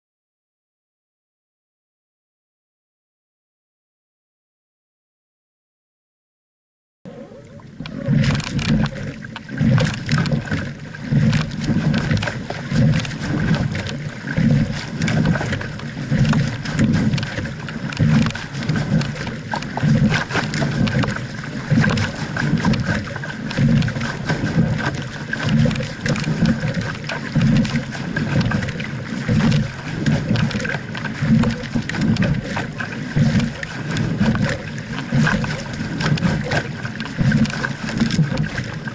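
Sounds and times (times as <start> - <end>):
oars knocking and clicking: 7.1 - 38.9
water rushing along a hull: 7.1 - 38.9.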